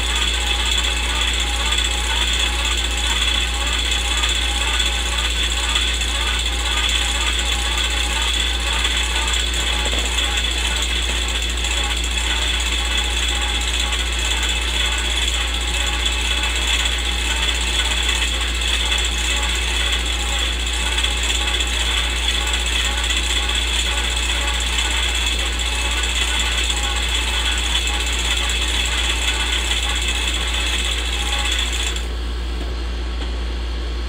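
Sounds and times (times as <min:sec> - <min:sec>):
film projector clattering: 0:00.0 - 0:32.1.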